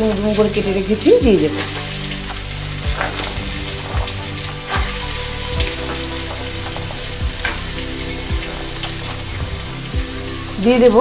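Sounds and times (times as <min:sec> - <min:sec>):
carrot sizzling in hot oil: 0:00.0 - 0:11.0.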